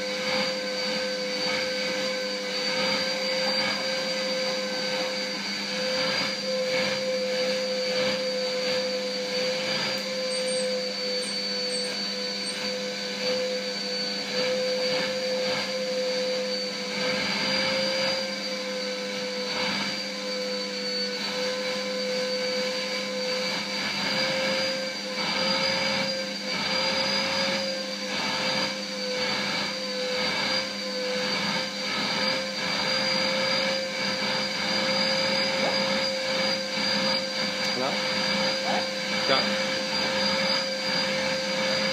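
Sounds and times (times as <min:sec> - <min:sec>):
vacuum cleaner whining: 0:00.0 - 0:41.9.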